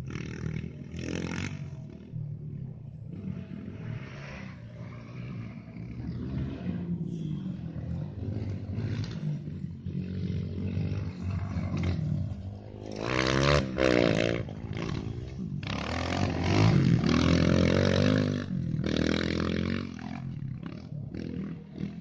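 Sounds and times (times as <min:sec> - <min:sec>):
dirt bike engine revving: 0:00.0 - 0:02.2, 0:03.1 - 0:22.0.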